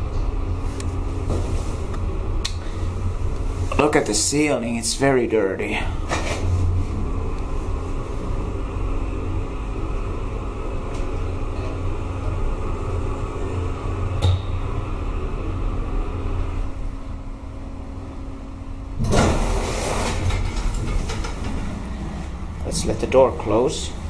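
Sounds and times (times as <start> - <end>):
lift humming: 0.0 - 24.0.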